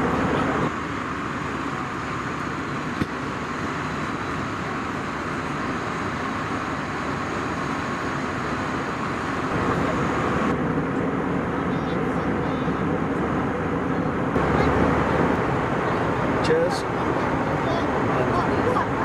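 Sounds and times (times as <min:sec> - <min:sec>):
airliner cabin noise: 0:00.0 - 0:19.0.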